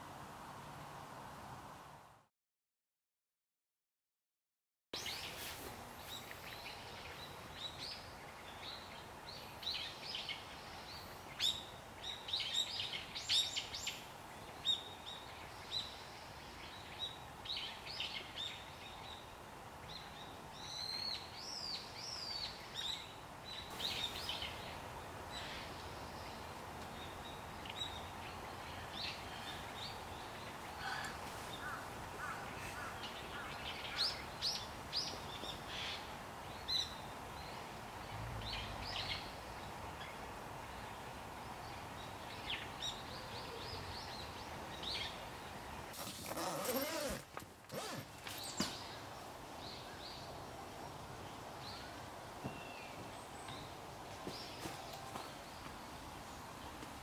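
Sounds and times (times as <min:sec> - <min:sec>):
faint background hiss: 0:00.0 - 0:02.3, 0:05.0 - 0:57.0.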